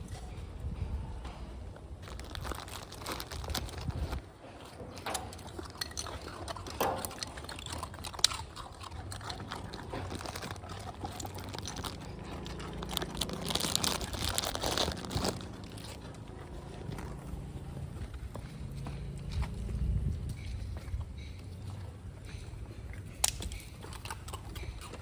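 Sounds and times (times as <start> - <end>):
dogs crunching biscuits: 1.8 - 25.0.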